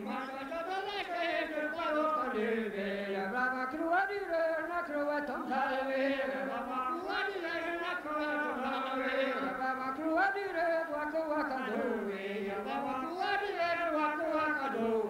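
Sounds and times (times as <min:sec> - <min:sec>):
men singing unaccompanied: 0:00.0 - 0:15.0.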